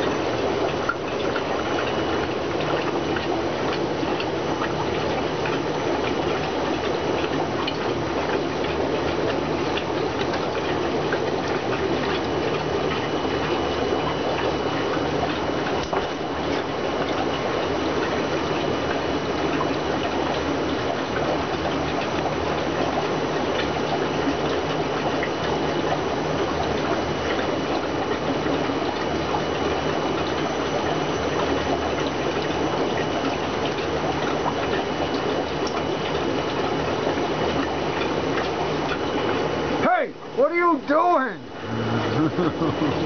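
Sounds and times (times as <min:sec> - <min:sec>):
low pump hum: 0:00.0 - 0:43.0
running water rushing: 0:00.0 - 0:43.0.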